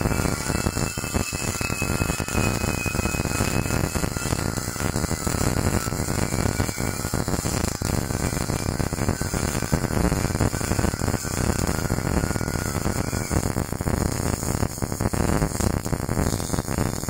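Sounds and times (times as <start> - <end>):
welding arc crackling: 0.0 - 17.0.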